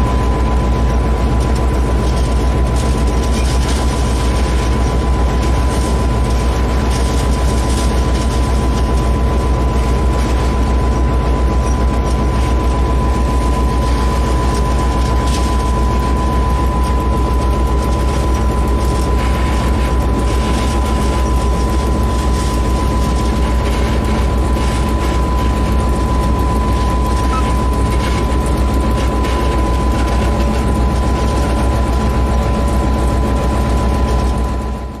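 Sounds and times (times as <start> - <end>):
diesel locomotive engine throbbing: 0.0 - 35.0
steady high whine: 0.0 - 35.0.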